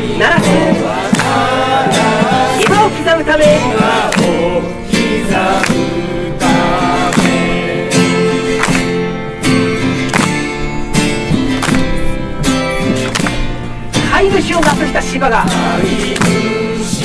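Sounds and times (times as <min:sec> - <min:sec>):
acoustic guitar strumming: 0:00.0 - 0:17.0
hands clapping: 0:00.3 - 0:13.6, 0:14.6 - 0:14.9, 0:16.0 - 0:16.6.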